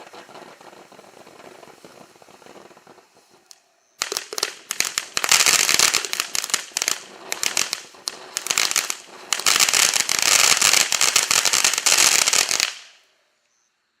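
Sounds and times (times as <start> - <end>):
firework crackling: 0.0 - 13.2.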